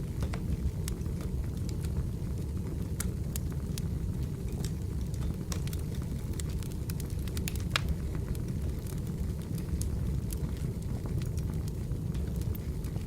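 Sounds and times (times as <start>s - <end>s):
firewood crackling and popping: 0.0s - 13.0s
low rumble of fire: 0.0s - 13.0s.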